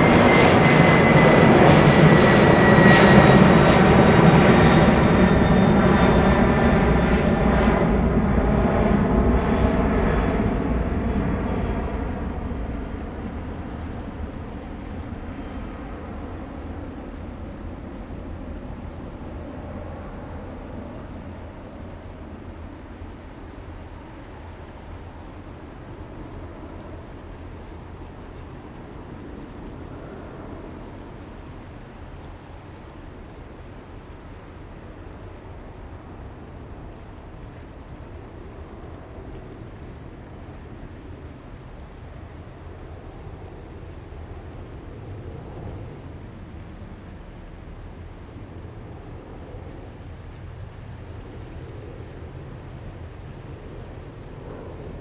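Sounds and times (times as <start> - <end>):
distant jet engines roaring: 0.0 - 55.0.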